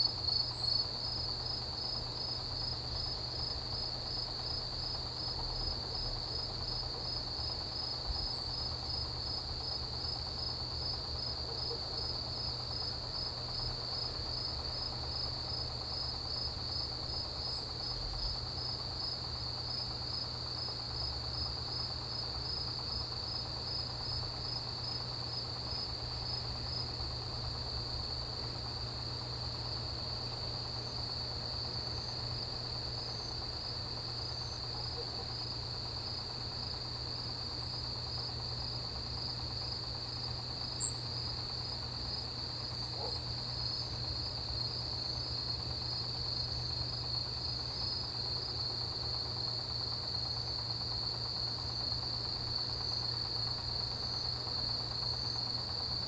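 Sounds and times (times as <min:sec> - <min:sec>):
high insect trill: 0:00.0 - 0:56.0
rapidly pulsing insect chirping: 0:00.0 - 0:56.0.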